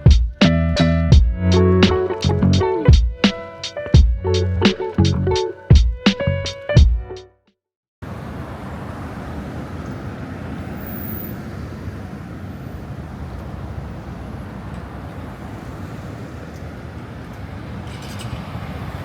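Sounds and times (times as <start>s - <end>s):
road traffic rumble: 0.0s - 6.7s, 8.0s - 19.0s.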